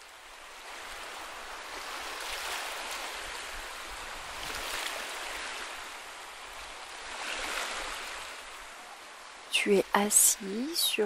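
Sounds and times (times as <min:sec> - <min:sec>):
sea waves washing on beach: 0:00.0 - 0:11.0.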